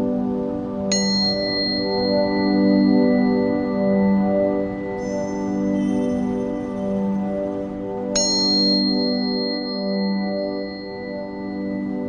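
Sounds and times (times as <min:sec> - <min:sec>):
ambient music drone: 0:00.0 - 0:12.0
tuning fork ringing: 0:00.9 - 0:12.0.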